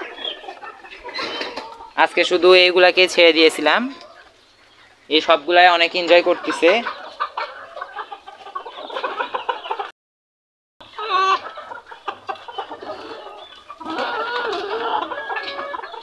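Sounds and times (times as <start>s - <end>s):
chickens clucking: 0.0s - 9.9s, 10.8s - 16.0s.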